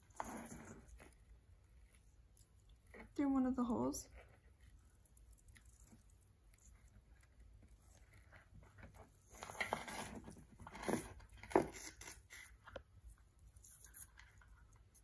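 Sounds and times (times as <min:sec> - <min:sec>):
twine rustling and scraping: 0:00.0 - 0:15.0.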